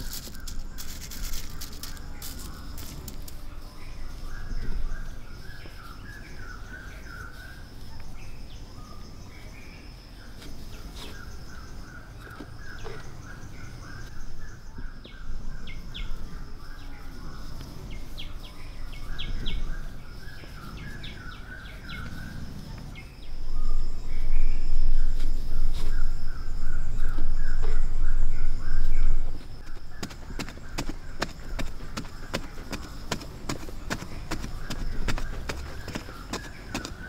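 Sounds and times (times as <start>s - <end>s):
birds chirping: 0.0s - 37.0s
insects buzzing: 0.0s - 37.0s.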